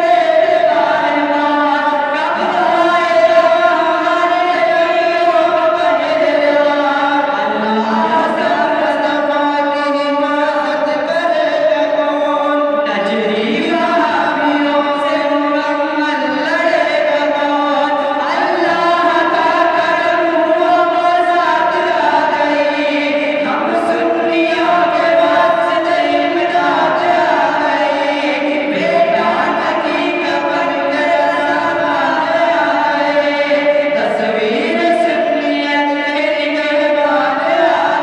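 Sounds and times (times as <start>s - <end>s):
men singing through microphones: 0.0s - 38.0s.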